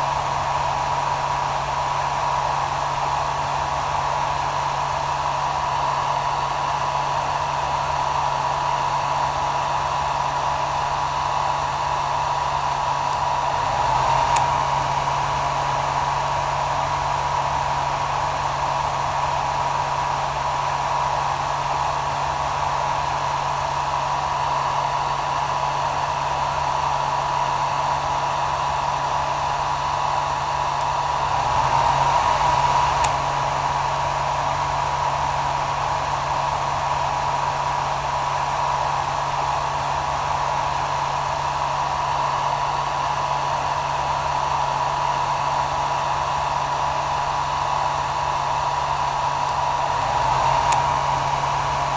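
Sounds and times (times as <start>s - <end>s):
hair dryer running: 0.0s - 51.9s.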